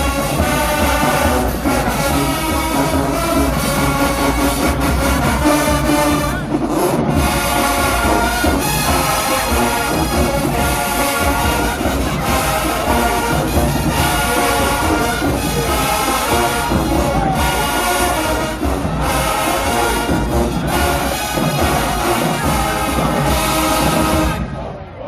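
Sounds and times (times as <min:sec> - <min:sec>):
marching band playing loudly: 0:00.0 - 0:24.8.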